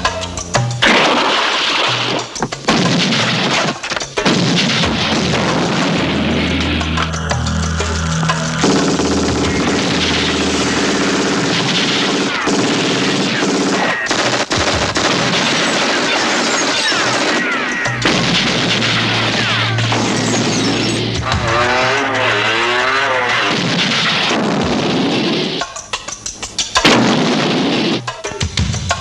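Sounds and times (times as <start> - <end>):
film score music: 0.0 - 29.0
rapid gunfire: 0.8 - 6.5, 8.6 - 25.6, 26.8 - 28.1.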